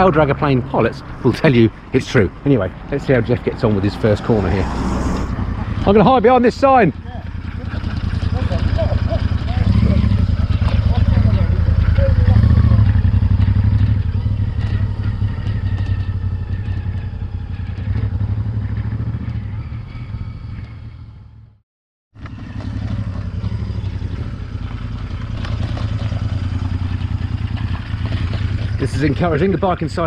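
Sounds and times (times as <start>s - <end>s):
motorcycle engine running: 5.3s - 21.6s, 22.2s - 30.0s.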